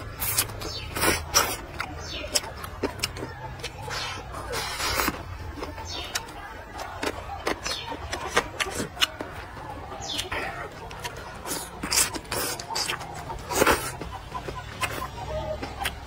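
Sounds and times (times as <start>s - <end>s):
lip smacks and clicks: 0.0s - 16.0s
wet chewing and slurping: 0.0s - 16.0s.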